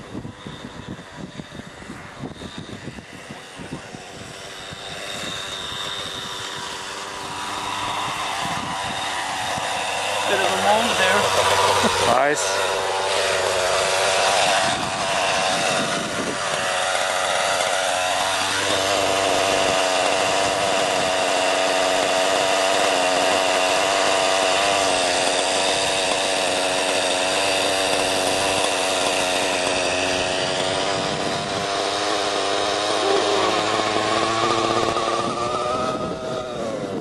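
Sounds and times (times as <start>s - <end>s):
model helicopter engine running: 0.0s - 37.0s.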